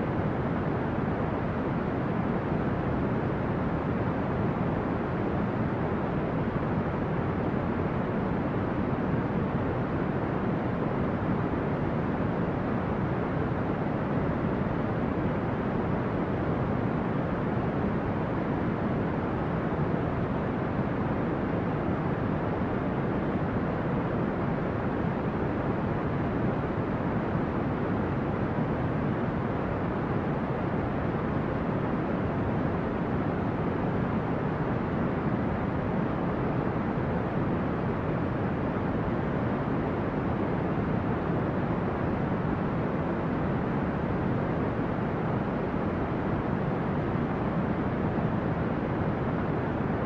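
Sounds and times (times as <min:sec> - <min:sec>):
brown noise hiss: 0:00.0 - 0:50.0.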